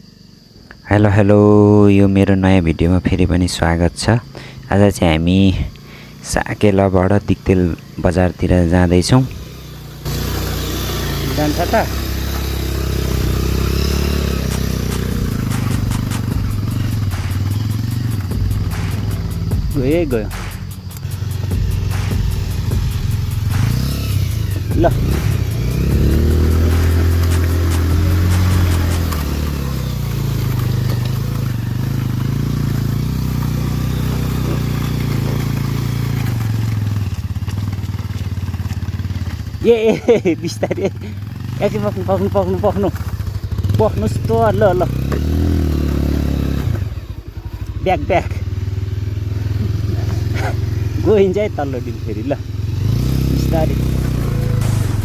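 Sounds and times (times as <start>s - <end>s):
motorcycle engine under load: 6.9s - 55.0s.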